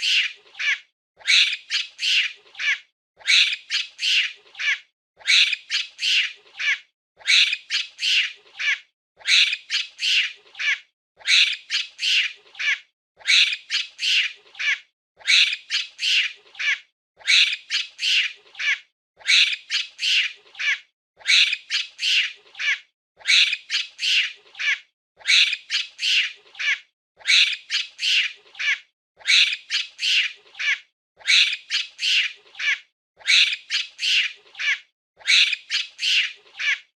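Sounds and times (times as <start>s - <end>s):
monkey screeching: 0.0s - 36.9s.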